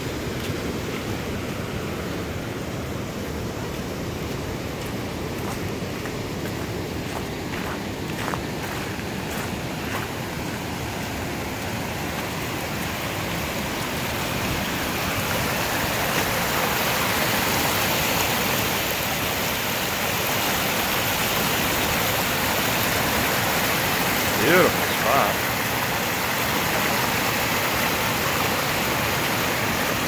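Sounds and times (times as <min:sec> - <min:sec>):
water rushing over spillway: 0:00.0 - 0:30.0.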